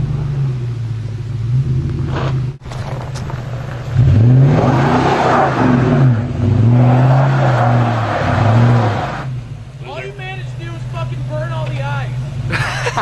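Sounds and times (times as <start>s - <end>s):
engine revving: 0.0s - 12.6s.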